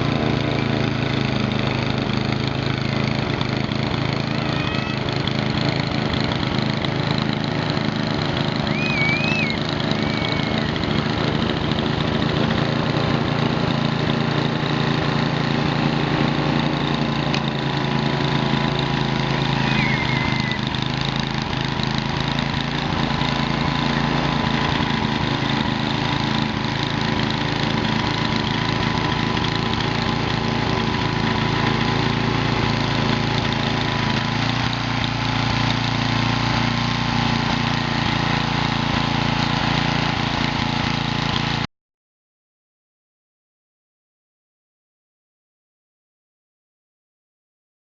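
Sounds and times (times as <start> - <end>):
small engine running steadily: 0.0 - 41.7.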